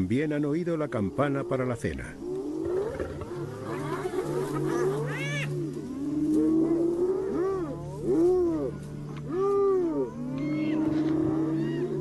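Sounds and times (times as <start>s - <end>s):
hyenas calling: 0.7s - 12.0s.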